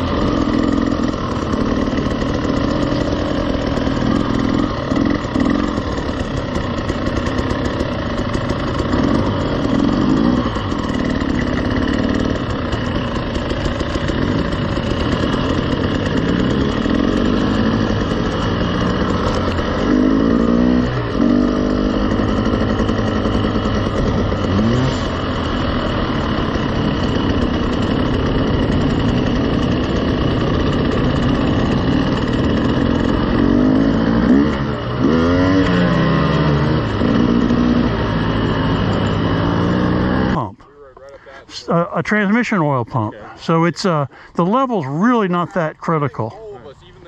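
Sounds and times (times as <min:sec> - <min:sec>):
dirt bike engine revving: 0:00.0 - 0:40.7, 0:41.4 - 0:46.3.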